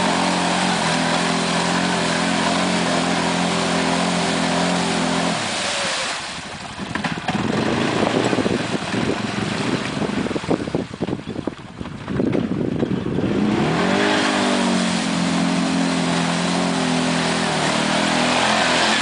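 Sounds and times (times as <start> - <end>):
rough uneven engine noise: 0.0 - 10.5, 12.3 - 19.0
atv engine running: 0.0 - 19.0.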